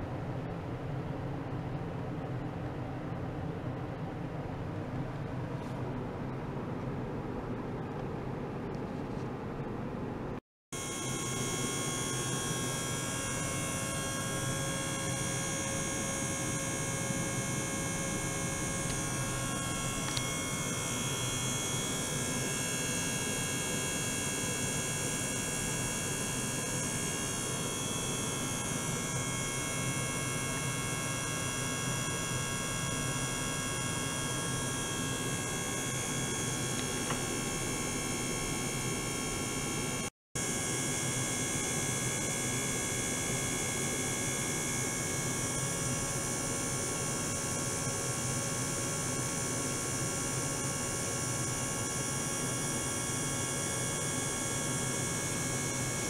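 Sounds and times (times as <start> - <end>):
steady electrical hum: 0.0 - 56.0.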